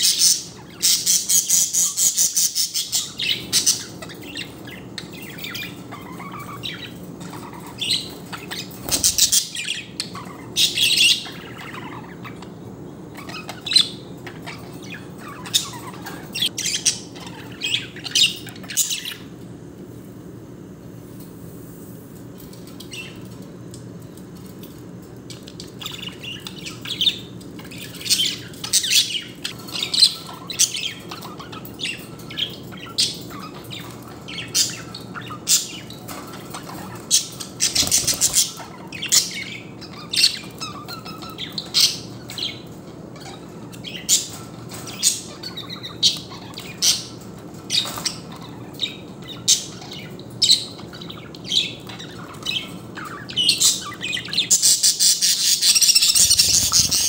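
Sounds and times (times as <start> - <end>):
budgerigars squawking and chirping: 0.0 - 12.5, 13.1 - 19.3, 25.7 - 57.0.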